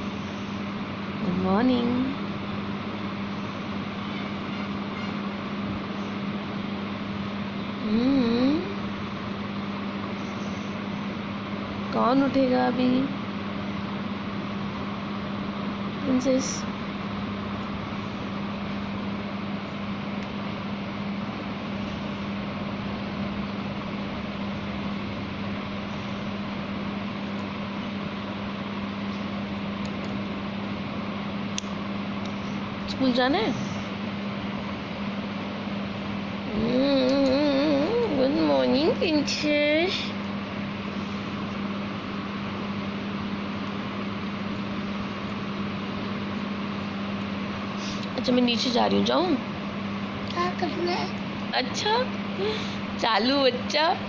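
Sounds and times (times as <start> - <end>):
electric fan running: 0.0 - 54.0.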